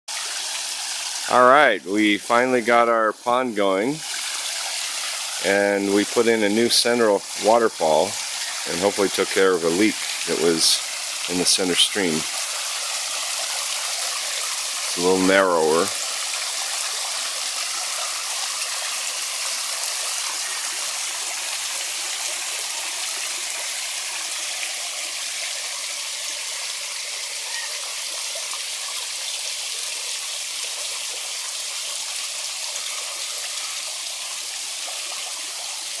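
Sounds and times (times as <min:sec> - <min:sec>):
waterfall spilling over rocks: 0:00.1 - 0:36.0.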